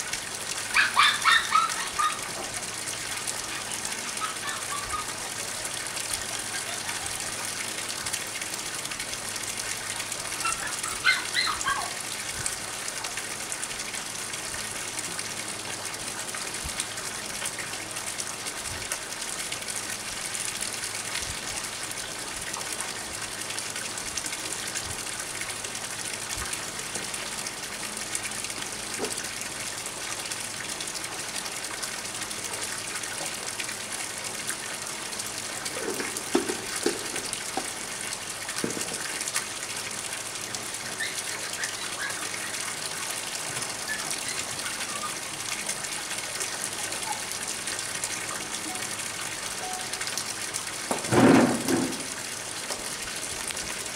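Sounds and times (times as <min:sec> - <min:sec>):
water pouring into a pond: 0:00.0 - 0:53.9.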